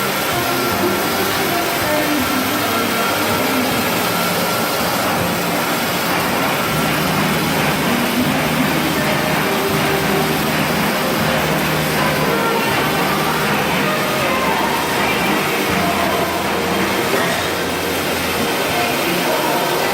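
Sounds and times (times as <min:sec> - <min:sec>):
band saw cutting machine running: 0:00.0 - 0:19.9.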